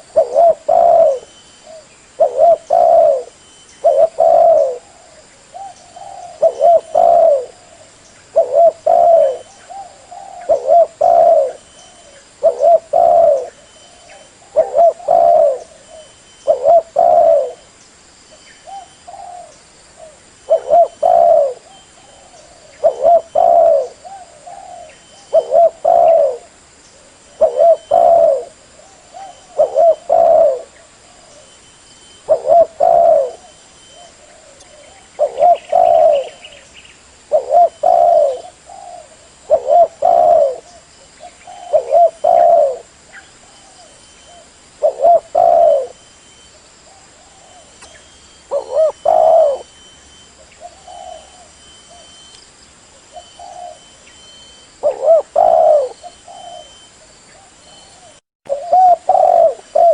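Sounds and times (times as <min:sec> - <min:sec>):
dove cooing: 0:00.0 - 0:17.7, 0:18.6 - 0:31.5, 0:32.2 - 0:46.1, 0:46.9 - 0:52.3, 0:53.0 - 0:59.9.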